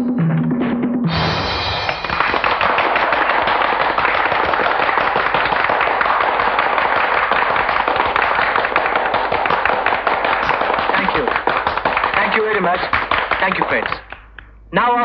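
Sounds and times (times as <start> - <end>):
audience applauding: 1.8 - 14.5.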